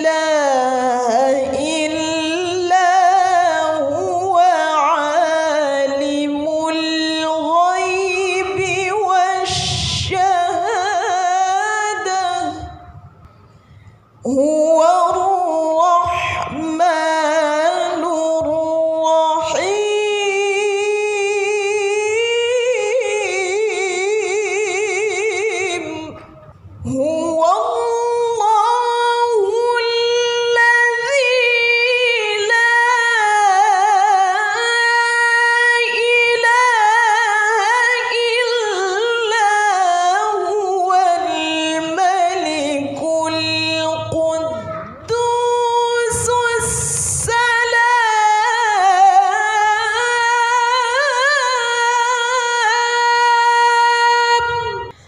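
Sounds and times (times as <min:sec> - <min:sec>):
woman reciting melodically: 0:00.0 - 0:55.0.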